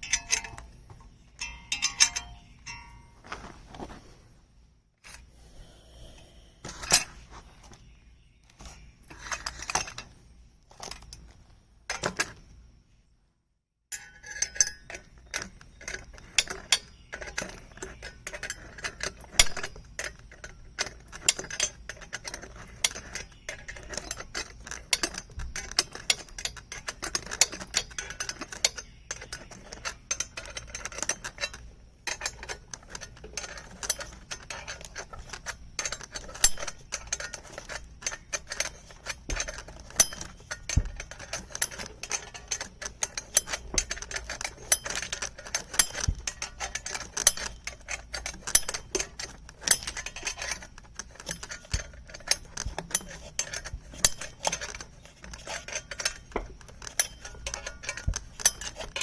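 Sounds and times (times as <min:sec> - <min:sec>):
metal parts clinking on frame: 0:00.0 - 0:03.5, 0:13.9 - 0:59.0.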